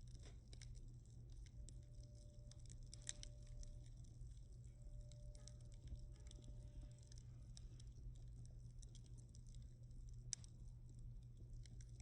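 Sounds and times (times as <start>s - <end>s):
bonfire crackling: 0.0s - 12.0s
low steady hum: 0.0s - 12.0s.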